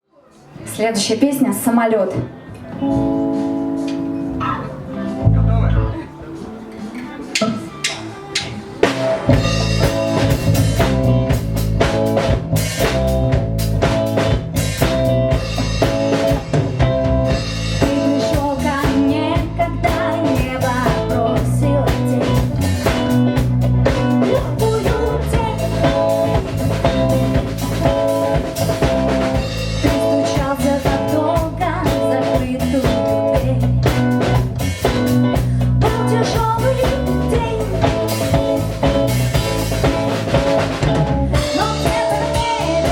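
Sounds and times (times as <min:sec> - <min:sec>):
live rock band playing: 0:02.1 - 0:42.9.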